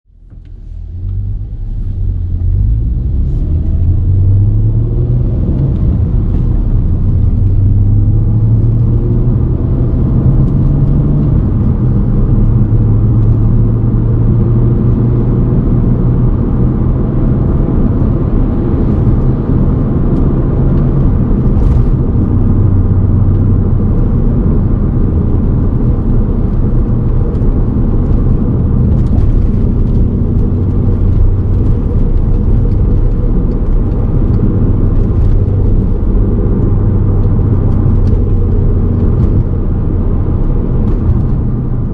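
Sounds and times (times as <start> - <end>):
car engine and road noise: 0.0 - 41.9
wheel bearing rumbling growl: 1.0 - 41.9.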